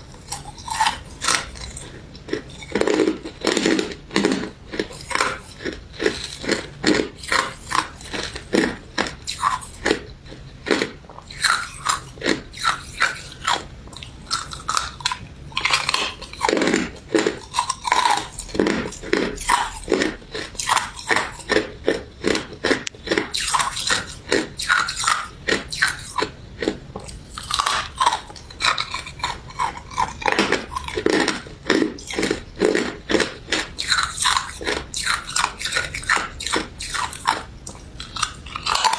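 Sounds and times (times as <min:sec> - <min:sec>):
crisp crunching of ice dessert: 0:00.0 - 0:38.9.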